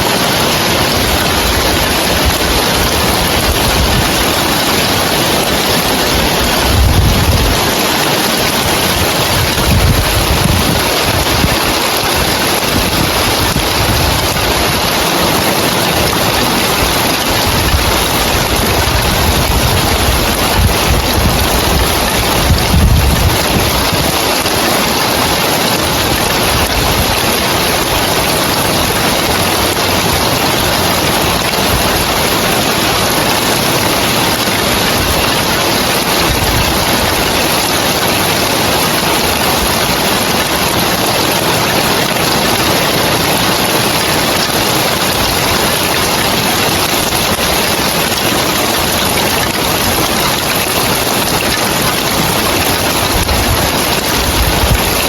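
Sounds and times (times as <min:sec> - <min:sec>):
rain on roof tiles: 0:00.0 - 0:55.0.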